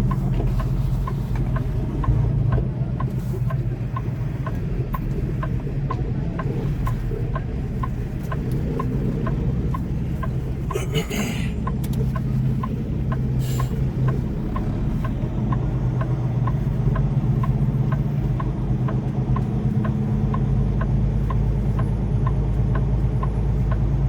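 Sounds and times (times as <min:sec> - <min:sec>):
steady ticking: 0:00.0 - 0:10.9, 0:11.5 - 0:24.0
truck diesel engine running: 0:00.0 - 0:24.0.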